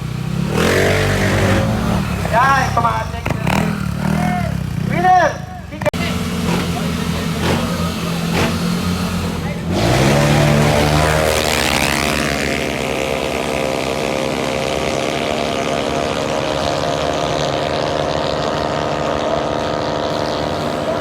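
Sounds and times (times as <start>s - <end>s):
scooter engines at full throttle: 0.0s - 21.0s.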